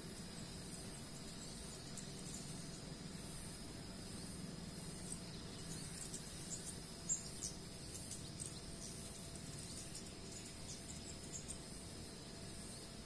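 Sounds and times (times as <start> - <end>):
insect drone: 0.0 - 13.0
birds chirping: 0.1 - 13.0.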